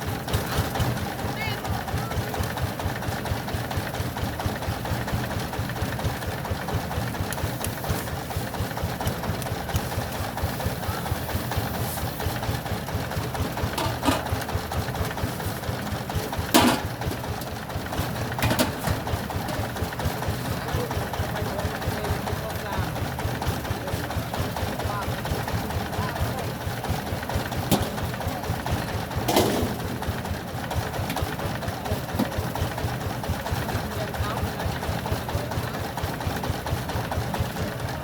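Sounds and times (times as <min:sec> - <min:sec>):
small engine chugging: 0:00.0 - 0:38.0.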